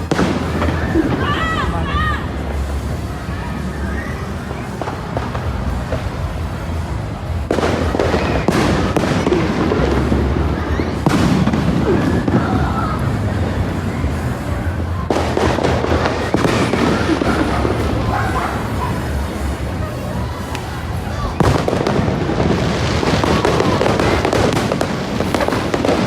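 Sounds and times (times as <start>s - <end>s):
background music: 0.0s - 26.0s
fireworks bursting and crackling: 0.0s - 26.0s.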